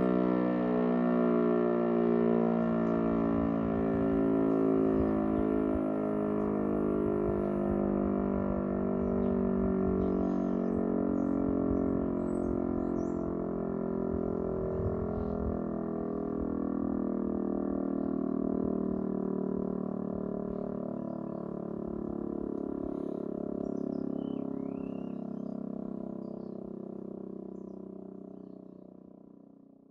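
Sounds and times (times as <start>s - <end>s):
siren steady tone: 0.0s - 29.9s
birds chirping: 2.7s - 28.9s.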